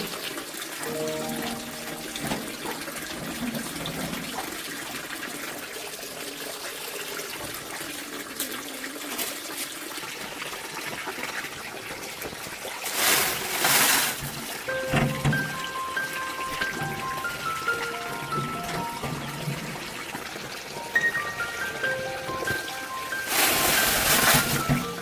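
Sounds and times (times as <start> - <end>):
water rushing: 0.0 - 25.0
water trickling: 0.0 - 25.0.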